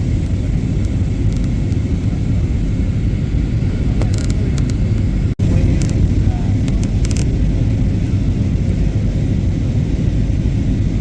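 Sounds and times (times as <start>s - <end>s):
airplane rumble: 0.0s - 11.0s.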